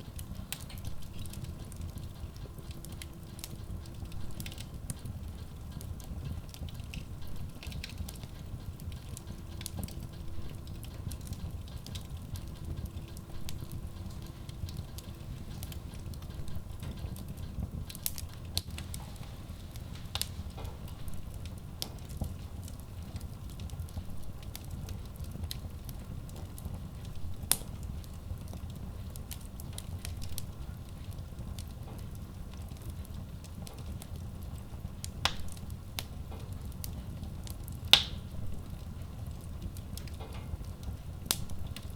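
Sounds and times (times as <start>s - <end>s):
fire burning with low rumble: 0.0s - 41.9s
wood crackling and popping: 0.0s - 41.9s.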